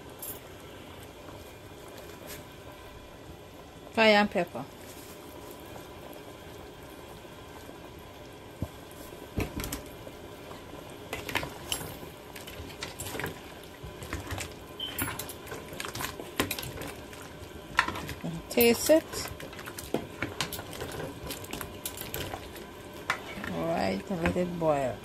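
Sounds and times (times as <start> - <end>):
curry bubbling in a pot: 4.7 - 25.0.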